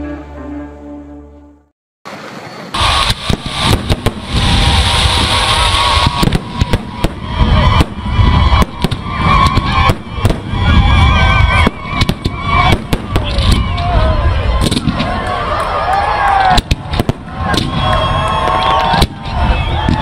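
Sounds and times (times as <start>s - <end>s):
wavering whistling fireworks: 2.1s - 20.0s
fireworks bangs and pops: 2.7s - 15.2s, 16.4s - 20.0s.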